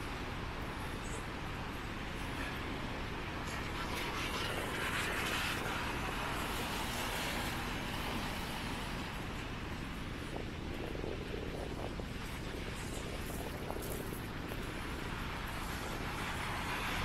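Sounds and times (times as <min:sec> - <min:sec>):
rain on umbrella: 0:00.0 - 0:17.0
tyres hissing on wet roads: 0:00.0 - 0:17.0.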